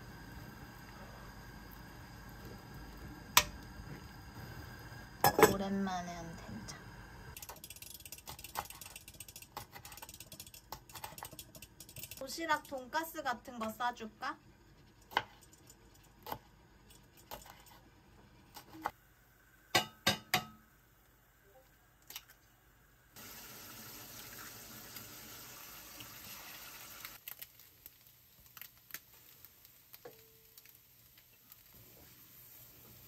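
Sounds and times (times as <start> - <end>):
eggs sizzling in oil: 0.0 - 21.4, 22.4 - 33.0.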